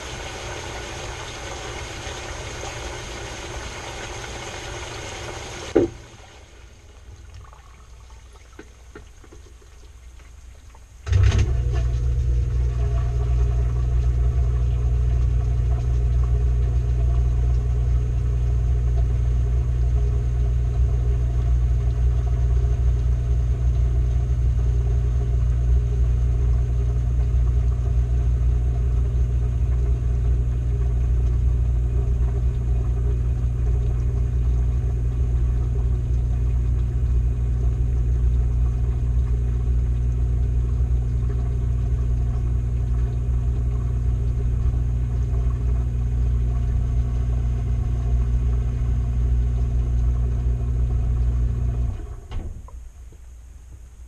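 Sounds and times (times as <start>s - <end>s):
washing machine running: 0.0s - 8.9s, 11.0s - 52.7s.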